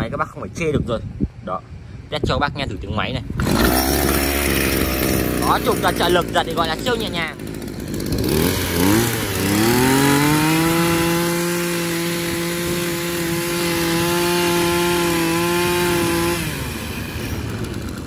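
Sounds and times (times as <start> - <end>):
brush cutter engine revving: 3.1 - 18.0.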